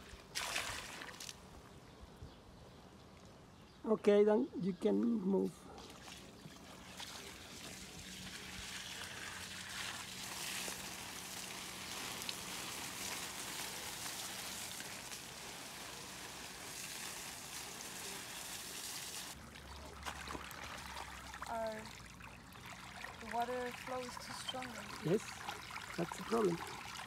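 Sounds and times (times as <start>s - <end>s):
hose water splashing on plants: 0.0s - 1.5s, 5.8s - 27.0s.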